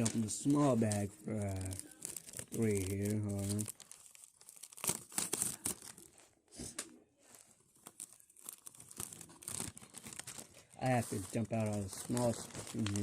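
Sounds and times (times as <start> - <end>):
plastic bag crinkling: 0.0 - 6.4, 7.2 - 13.0.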